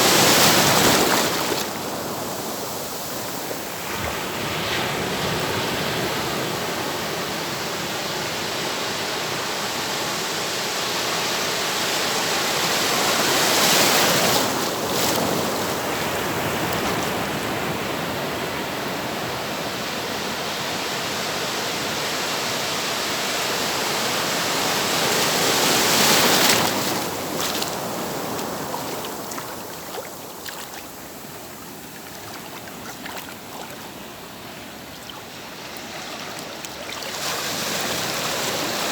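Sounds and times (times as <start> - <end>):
ocean surf washing onto beach: 0.0 - 38.9.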